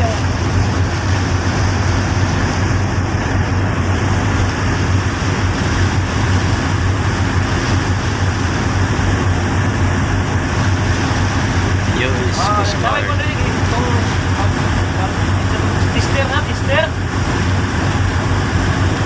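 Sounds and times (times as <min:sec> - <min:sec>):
constant rushing noise: 0:00.0 - 0:19.0
low engine-like hum: 0:00.0 - 0:19.0.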